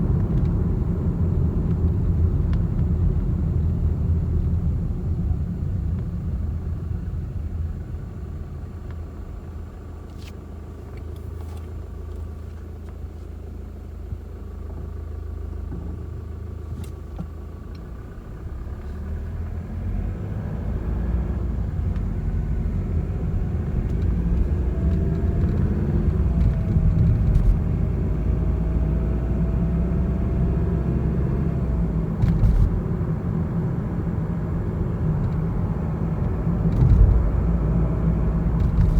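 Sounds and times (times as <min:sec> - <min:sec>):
road and engine rumble: 0:00.0 - 0:38.9.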